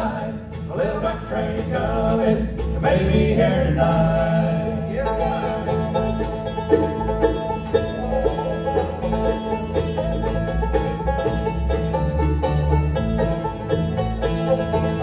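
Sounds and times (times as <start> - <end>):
acoustic guitar: 0.0 - 15.0
banjo: 0.0 - 15.0
fiddle: 0.0 - 15.0
mandolin: 0.0 - 15.0
upright bass: 0.0 - 15.0.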